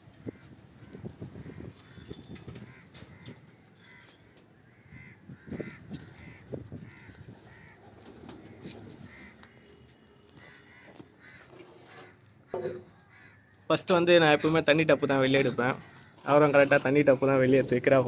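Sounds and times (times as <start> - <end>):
crows cawing: 0.2 - 16.9.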